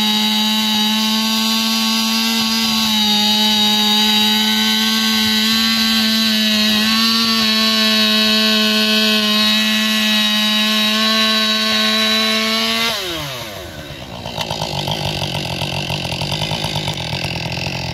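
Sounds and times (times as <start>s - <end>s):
chainsaw engine revving: 0.0s - 17.9s.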